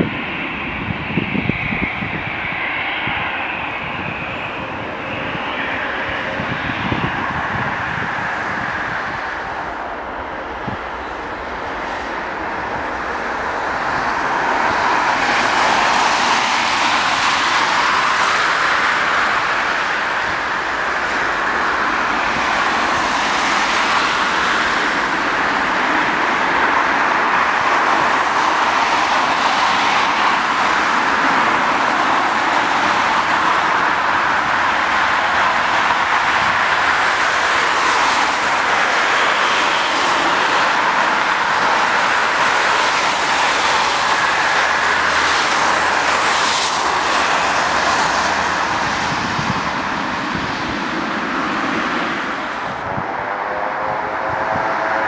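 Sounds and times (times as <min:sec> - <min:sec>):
turboprop engines hiss and whine: 0:00.0 - 0:55.0.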